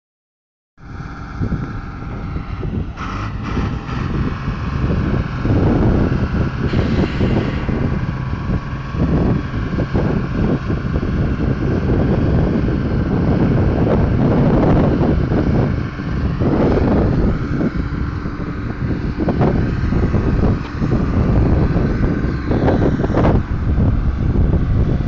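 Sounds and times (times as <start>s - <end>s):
truck diesel engines running: 0.8s - 25.0s
wind buffeting microphone: 0.8s - 25.0s.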